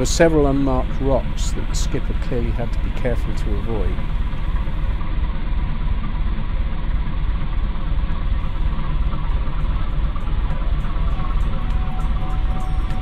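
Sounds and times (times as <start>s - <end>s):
ferry engine rumbling: 0.0s - 13.0s.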